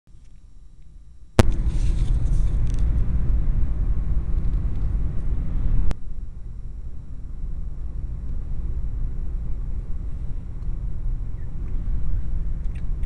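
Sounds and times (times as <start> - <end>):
car cabin rumble: 1.4 - 13.0.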